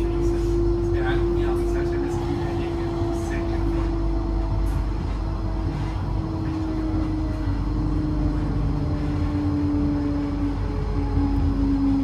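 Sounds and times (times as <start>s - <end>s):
electric train hum: 0.0s - 12.0s
low rumble: 0.0s - 12.0s.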